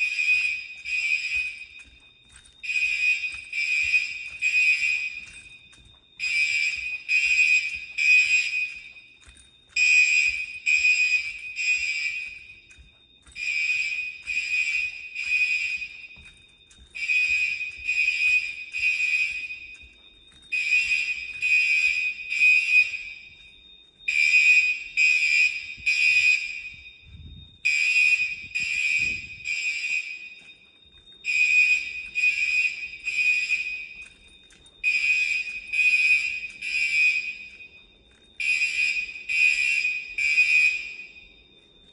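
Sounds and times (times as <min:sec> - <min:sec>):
faint steady high tone: 0:00.0 - 0:41.9
fire alarm bell ringing: 0:00.0 - 0:41.9.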